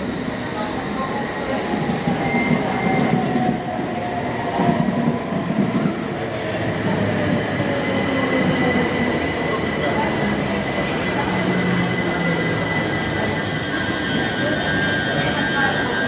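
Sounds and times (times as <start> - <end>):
train rolling rumble: 0.0 - 16.0
train whine: 0.0 - 16.0.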